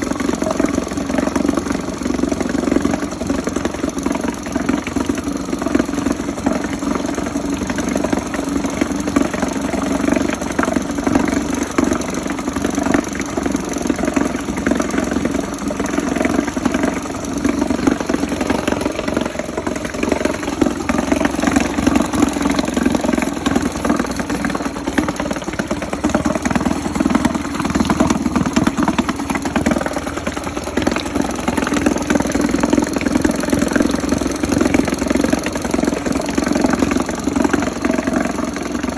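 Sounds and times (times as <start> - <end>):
outboard motor humming: 0.0 - 38.9.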